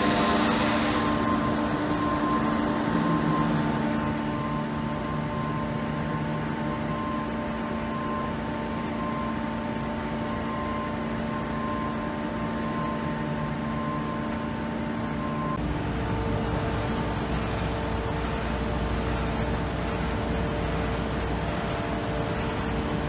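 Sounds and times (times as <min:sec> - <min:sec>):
construction machinery drone: 0:00.0 - 0:23.0
high-pitched machine whine: 0:00.0 - 0:23.0
street traffic: 0:00.0 - 0:23.0.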